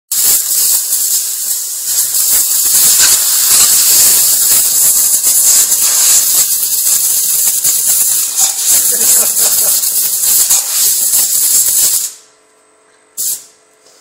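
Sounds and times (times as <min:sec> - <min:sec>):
air blow gun hissing: 0:00.1 - 0:12.2, 0:13.2 - 0:13.5.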